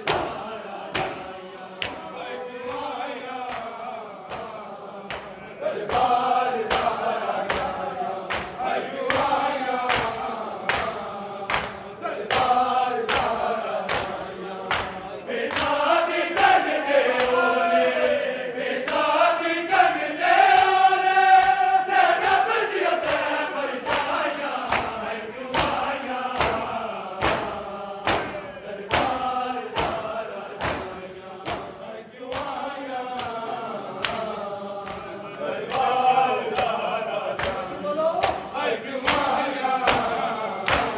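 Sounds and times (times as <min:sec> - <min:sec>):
men chanting in unison: 0:00.0 - 0:40.9
rhythmic chest-beating thuds: 0:00.0 - 0:40.9.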